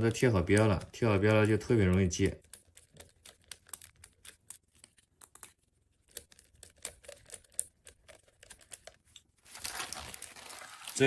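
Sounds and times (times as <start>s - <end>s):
clicks and rustles of wires: 0.2s - 11.0s.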